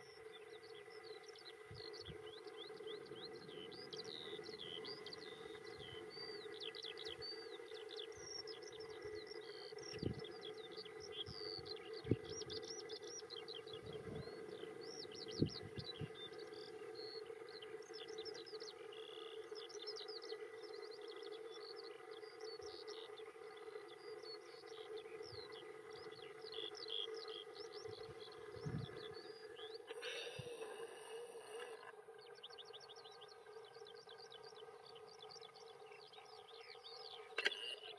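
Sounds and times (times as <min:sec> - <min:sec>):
songbirds chirping and singing: 0:00.0 - 0:37.9
steady low hum: 0:00.0 - 0:37.9.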